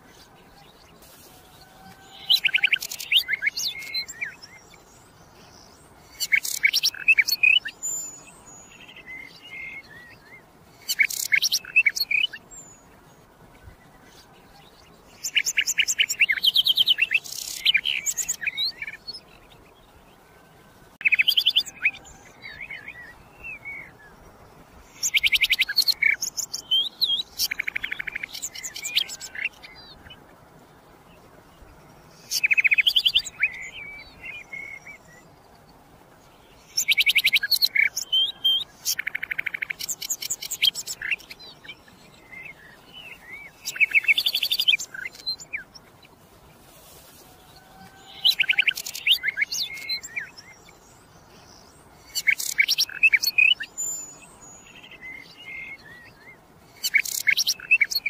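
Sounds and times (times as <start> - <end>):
nightingale singing: 0.0 - 30.3, 31.1 - 46.2, 46.8 - 58.0.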